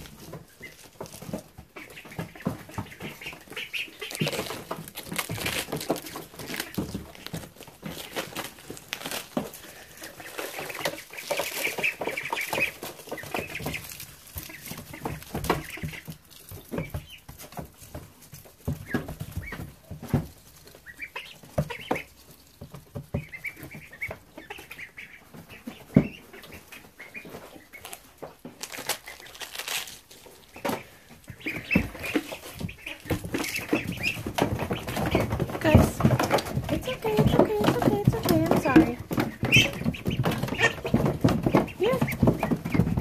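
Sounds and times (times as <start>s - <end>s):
ducklings peeping: 0.0s - 43.0s
small taps and rustles: 0.0s - 43.0s.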